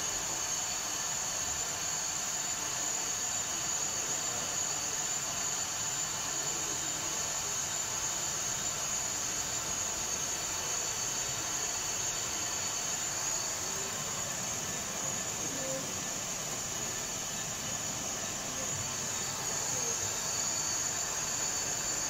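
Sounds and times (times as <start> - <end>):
jet engine hiss and whine: 0.0 - 22.0.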